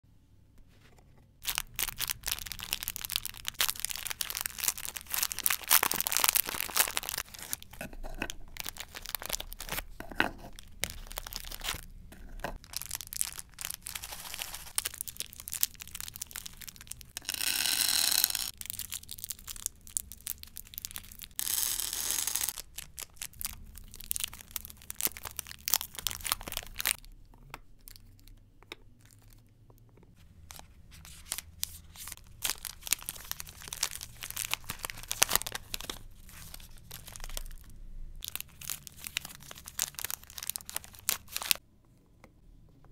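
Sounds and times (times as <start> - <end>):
candy wrappers crinkling and tearing: 1.4 - 28.4, 30.4 - 41.6.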